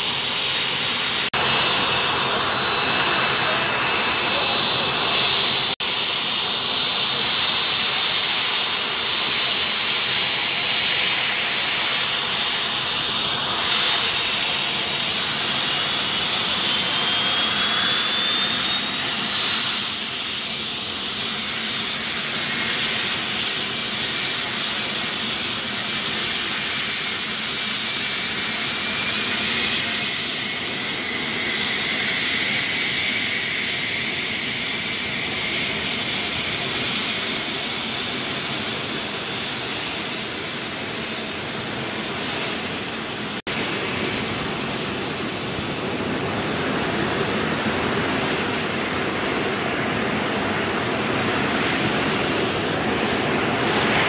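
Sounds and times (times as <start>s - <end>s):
jet engine whine and roar: 0.0s - 54.0s.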